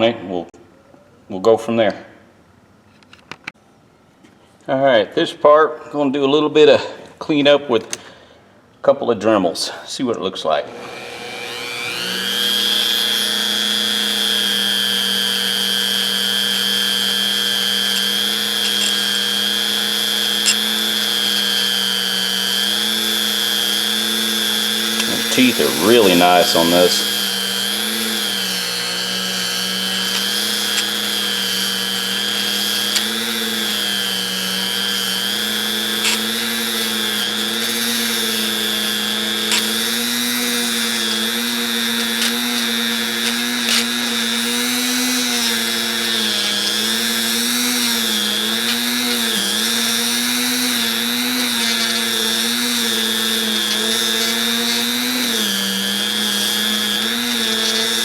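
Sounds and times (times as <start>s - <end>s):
rotary tool whining: 10.7s - 58.0s.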